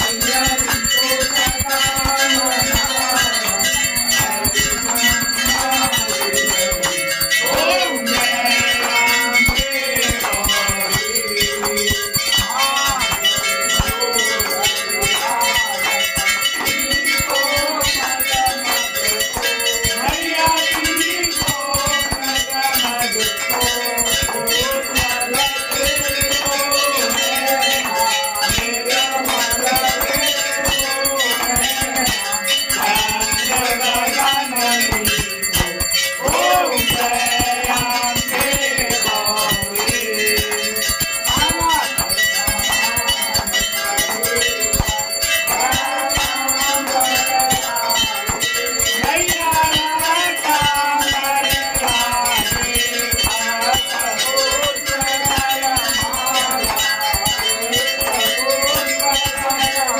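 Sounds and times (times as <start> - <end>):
hand bells ringing rapidly: 0.0 - 59.9
voices singing: 0.0 - 59.9.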